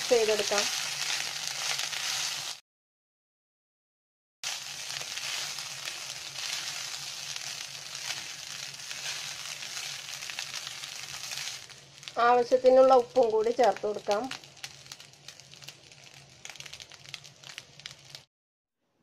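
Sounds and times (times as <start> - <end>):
rice sizzling in oil: 0.0 - 2.6, 4.4 - 18.3.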